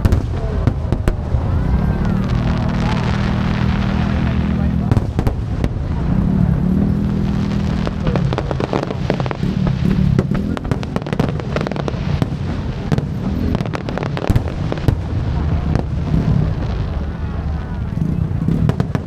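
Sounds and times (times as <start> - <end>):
fireworks bangs and crackles: 0.0 - 19.0
low rumble: 0.0 - 19.0.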